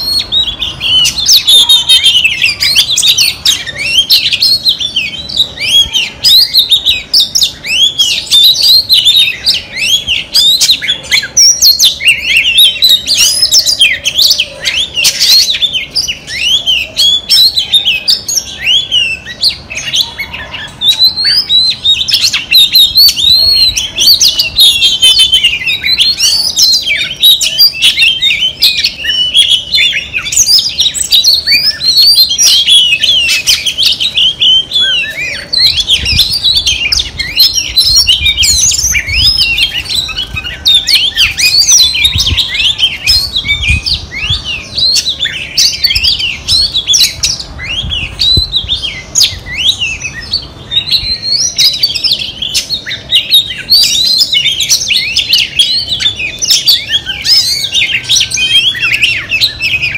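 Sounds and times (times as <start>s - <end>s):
bird singing whistled song: 0.0s - 59.9s.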